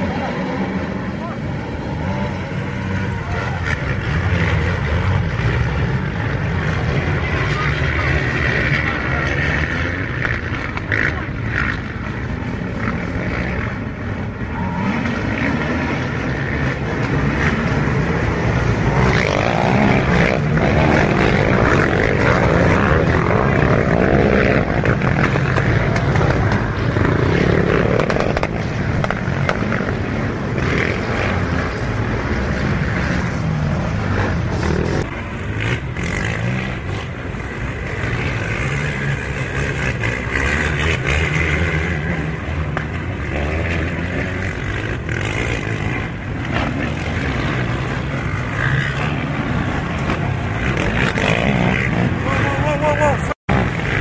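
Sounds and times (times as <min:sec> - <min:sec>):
quad bike engines revving: 0:00.0 - 0:54.0.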